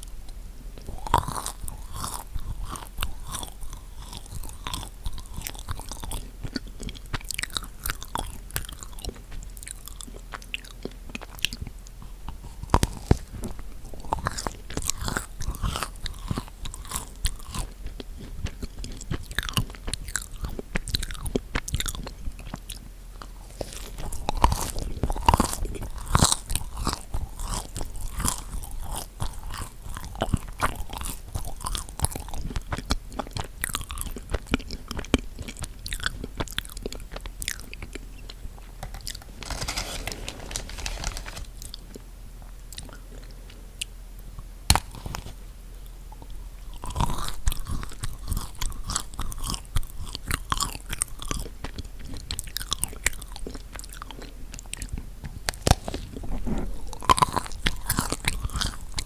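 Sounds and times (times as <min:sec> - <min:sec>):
chewing and biting cookies: 0:00.0 - 0:59.0.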